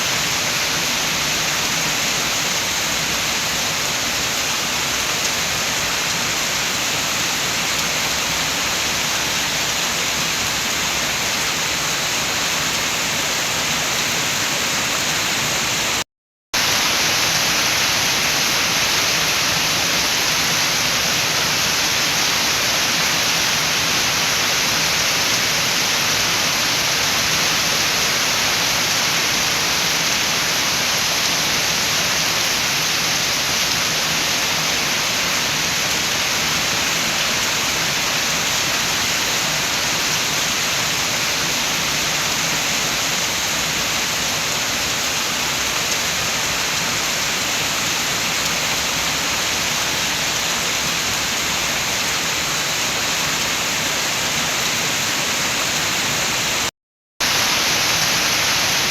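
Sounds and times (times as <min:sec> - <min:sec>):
steady rain hiss: 0:00.0 - 0:16.0, 0:16.6 - 0:58.9
wind: 0:00.0 - 0:16.0, 0:16.6 - 0:58.9.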